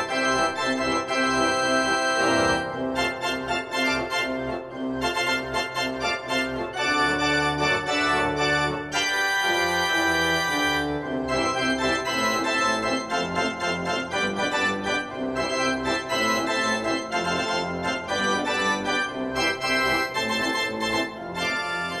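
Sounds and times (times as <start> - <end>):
arena organ music: 0.0 - 22.0.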